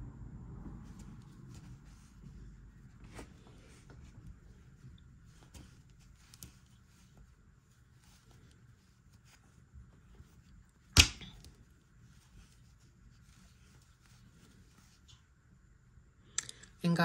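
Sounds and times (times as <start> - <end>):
crochet hook working yarn: 0.9 - 15.1.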